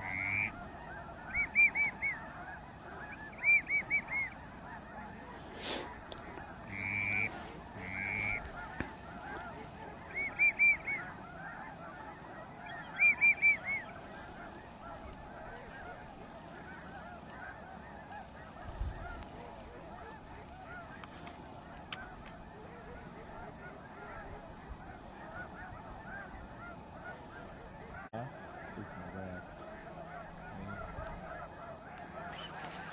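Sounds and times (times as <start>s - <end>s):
geese honking: 0.0s - 32.9s.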